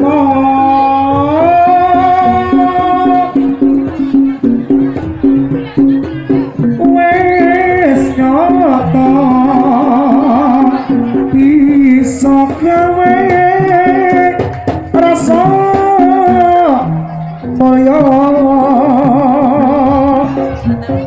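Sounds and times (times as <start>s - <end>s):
hand-drum strokes: 0.0s - 21.0s.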